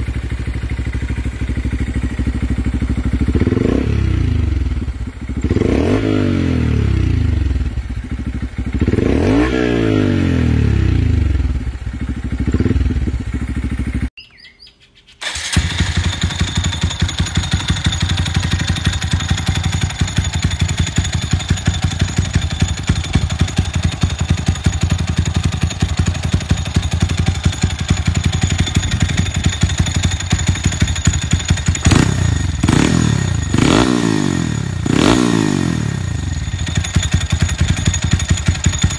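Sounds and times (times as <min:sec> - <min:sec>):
motorcycle engine idling: 0:00.0 - 0:14.1, 0:15.2 - 0:38.9
motorcycle engine revving: 0:00.0 - 0:14.1, 0:15.2 - 0:38.9.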